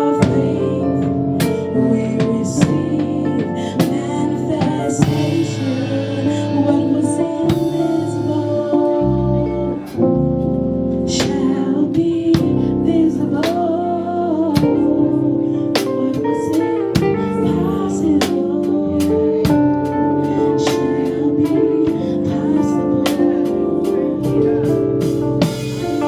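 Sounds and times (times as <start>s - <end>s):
band playing sustained chords: 0.0s - 26.0s.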